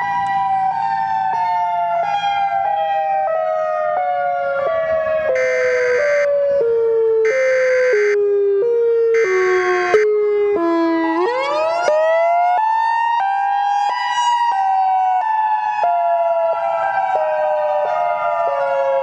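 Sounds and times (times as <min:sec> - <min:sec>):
two-tone hi-lo siren: 0:00.0 - 0:19.0.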